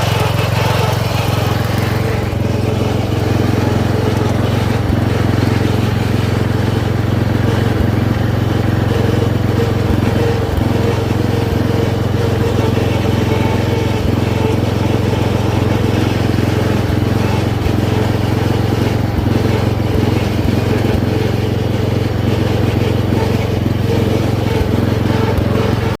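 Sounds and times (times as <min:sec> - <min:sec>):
riding lawn mower engine running: 0:00.0 - 0:26.0.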